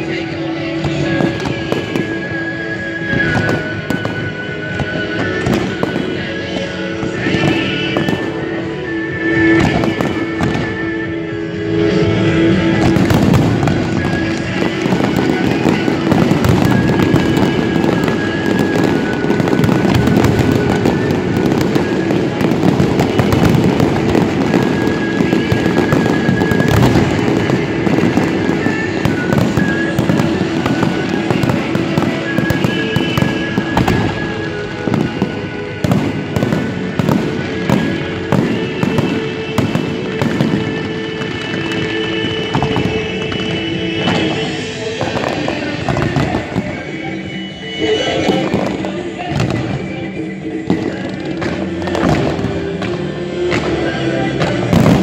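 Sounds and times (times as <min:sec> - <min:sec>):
fireworks crackling and banging: 0:00.0 - 0:55.0
music: 0:00.0 - 0:55.0.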